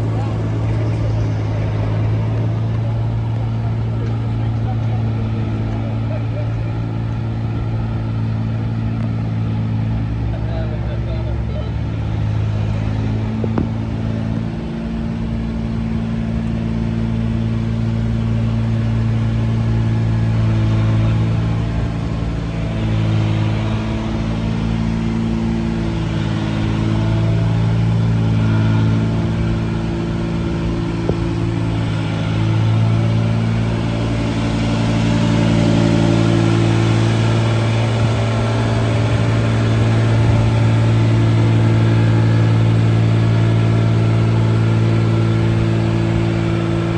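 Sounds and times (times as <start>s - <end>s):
haul truck engine running: 0.0s - 46.9s.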